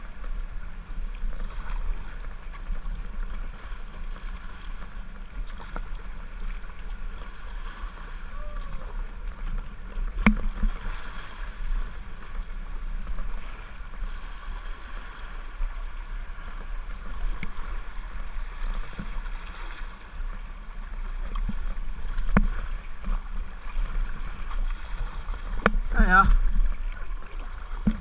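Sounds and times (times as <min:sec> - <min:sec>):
river water rushing: 0:01.6 - 0:28.0.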